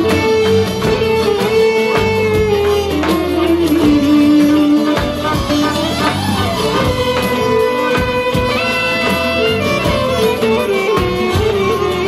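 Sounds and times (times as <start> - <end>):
drum beats: 0.0 - 12.0
folk ensemble playing: 0.0 - 12.0.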